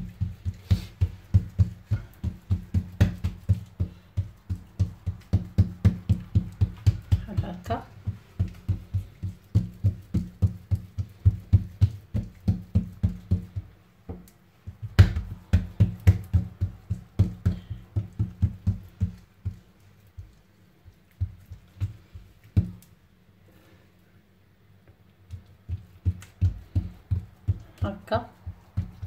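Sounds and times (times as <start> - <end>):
hands patting dough on table: 0.0 - 23.0, 24.9 - 29.0.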